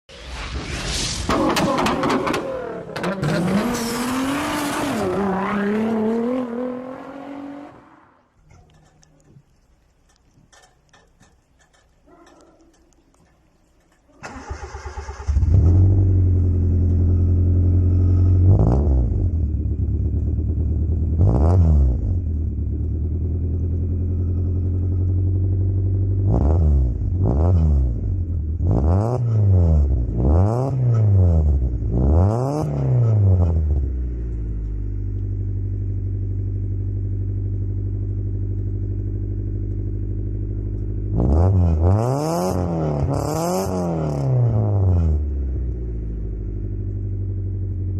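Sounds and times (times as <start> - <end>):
car engine revving: 1.3 - 8.8, 14.2 - 47.9.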